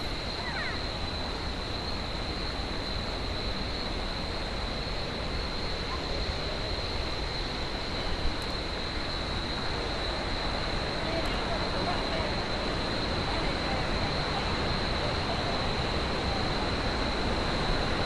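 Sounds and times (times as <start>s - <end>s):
rushing outdoor noise: 0.0s - 18.0s.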